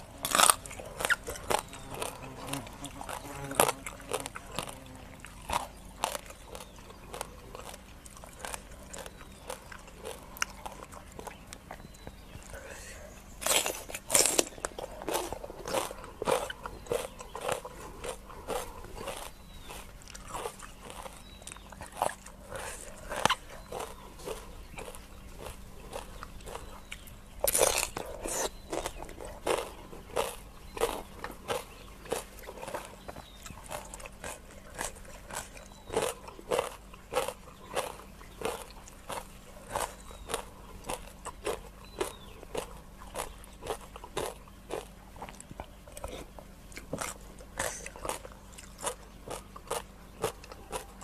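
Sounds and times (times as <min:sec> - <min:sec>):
crunchy chewing: 0:00.0 - 0:51.0.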